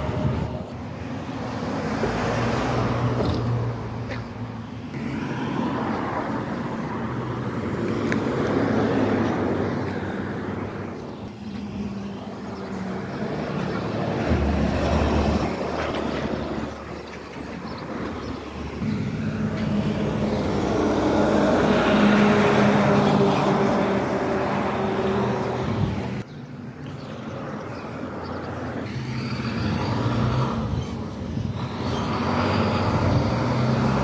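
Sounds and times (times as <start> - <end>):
school bus passing: 0.0 - 34.0
vehicles passing by: 0.0 - 34.0.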